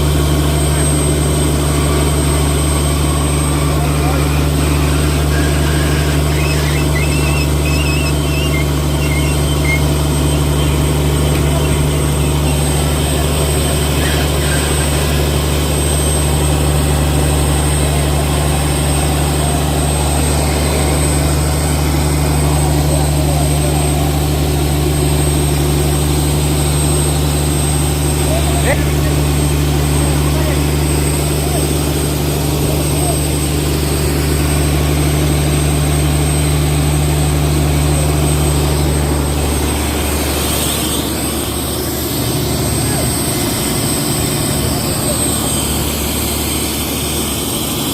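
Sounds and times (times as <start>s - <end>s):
boat engine droning: 0.0s - 47.9s
high-pitched whine: 0.0s - 47.9s.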